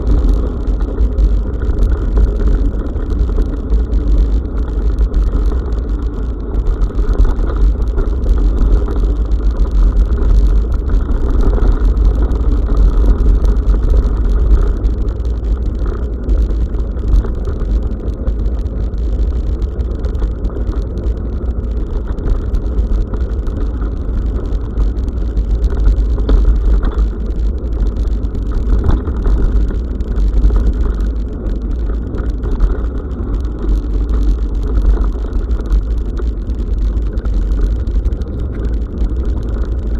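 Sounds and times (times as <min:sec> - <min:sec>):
bicycle tyres rumbling: 0:00.0 - 0:39.9
small rattles and clicks: 0:00.0 - 0:39.9.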